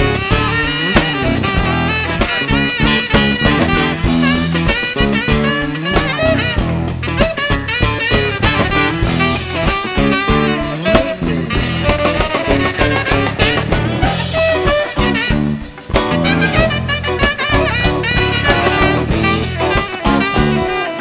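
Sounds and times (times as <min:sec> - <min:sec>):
band playing instrumental: 0:00.0 - 0:21.0.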